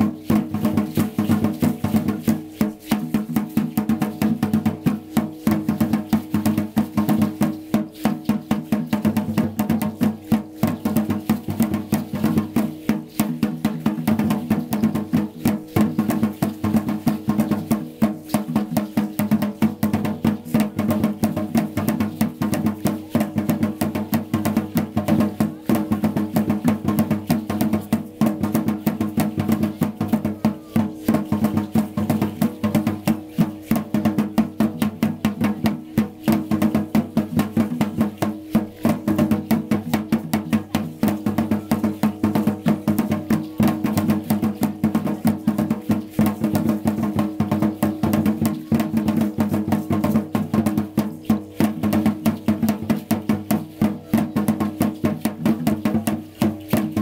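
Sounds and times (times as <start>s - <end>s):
rapid percussion: 0.0s - 57.0s.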